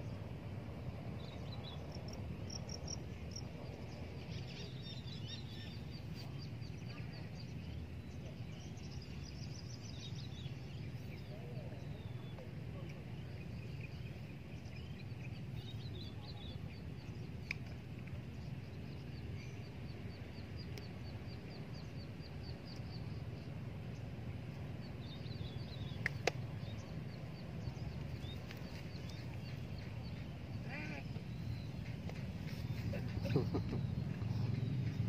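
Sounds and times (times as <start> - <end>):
low background rumble: 0.0 - 35.0.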